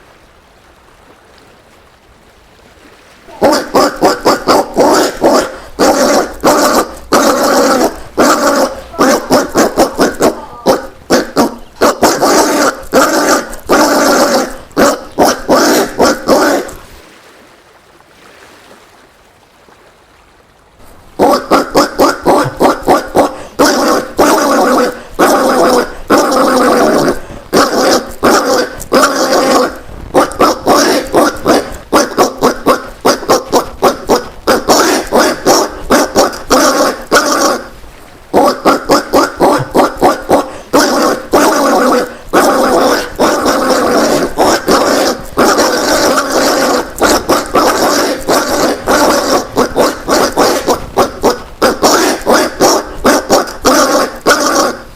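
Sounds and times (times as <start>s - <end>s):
peccary grunting calls: 3.3s - 16.9s, 21.2s - 54.9s.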